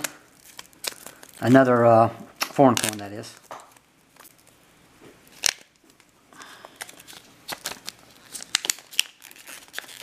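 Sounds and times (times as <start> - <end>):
plastic bag crinkling: 0.0 - 4.6, 5.2 - 10.0.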